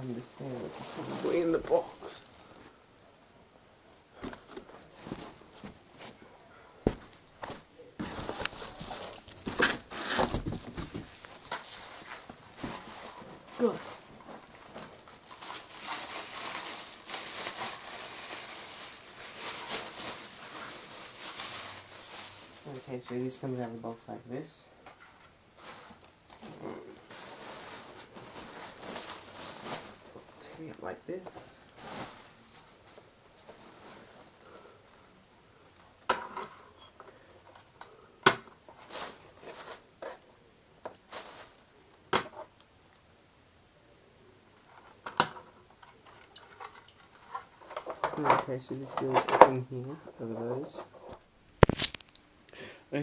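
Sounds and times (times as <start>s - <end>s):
rustling packaging and plastic wrap: 0.0s - 2.8s, 4.2s - 37.8s, 38.6s - 40.3s, 40.9s - 43.0s, 44.5s - 52.2s.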